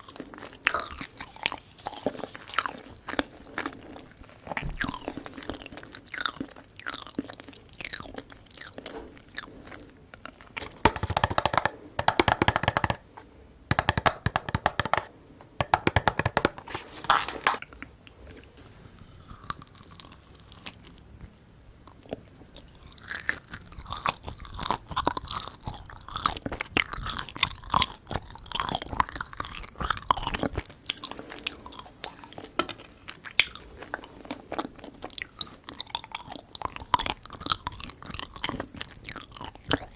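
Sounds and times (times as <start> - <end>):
chewing and crunching sweets: 0.0 - 11.9, 16.7 - 39.9.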